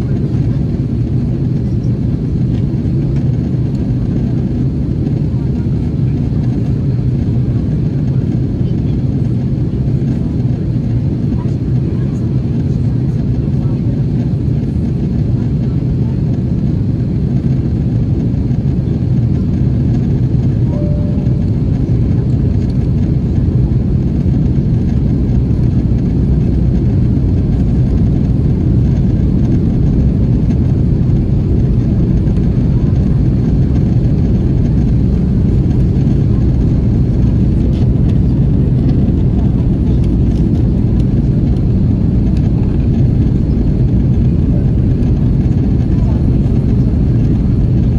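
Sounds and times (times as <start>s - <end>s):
airplane cabin engine roar: 0.0s - 47.9s.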